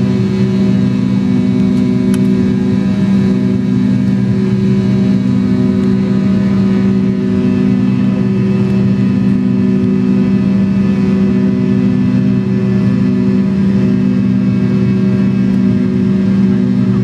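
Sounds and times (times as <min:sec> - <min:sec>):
jet engine drone: 0:00.0 - 0:17.0
whining engine tones: 0:00.0 - 0:17.0.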